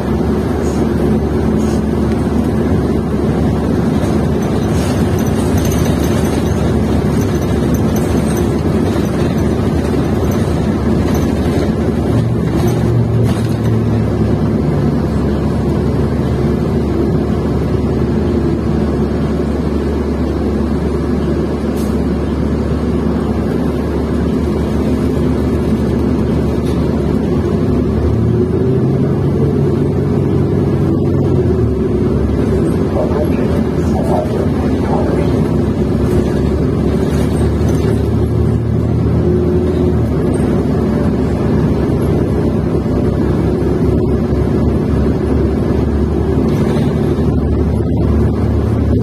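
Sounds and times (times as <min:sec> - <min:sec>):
bus engine running: 0:00.0 - 0:49.0
road noise: 0:00.0 - 0:49.0.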